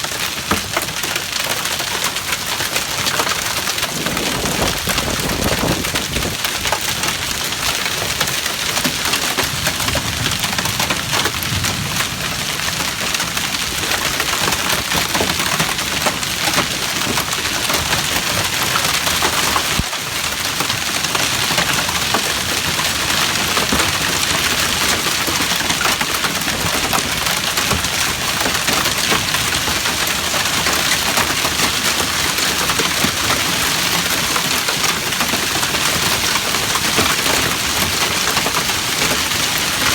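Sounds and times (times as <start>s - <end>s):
hail clattering on hard surfaces: 0.0s - 39.9s.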